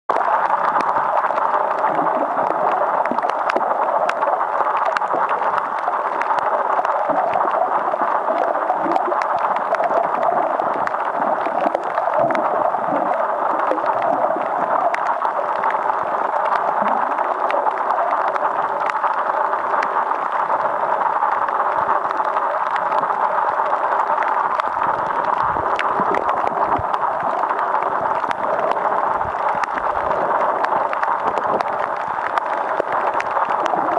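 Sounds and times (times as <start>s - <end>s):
faint clicks and crackles: 0.1s - 33.9s
underwater water rush: 0.1s - 33.9s.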